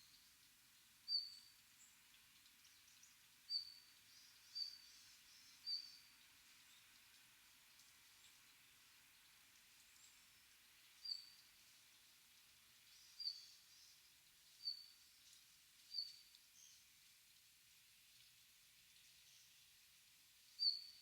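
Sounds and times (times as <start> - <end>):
faint forest background: 0.0 - 21.0.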